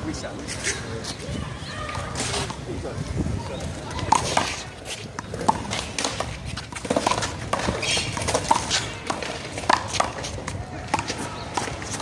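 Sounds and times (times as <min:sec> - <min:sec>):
shoes slapping pavement: 0:00.0 - 0:12.0.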